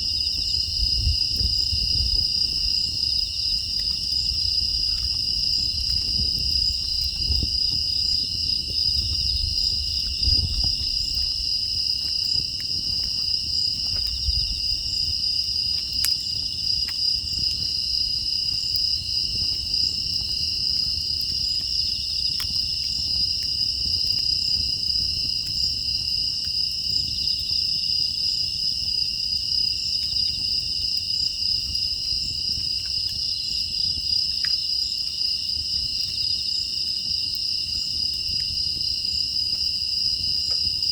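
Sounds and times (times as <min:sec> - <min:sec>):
crickets trilling: 0:00.0 - 0:40.9
wood fire crackling: 0:00.0 - 0:40.9.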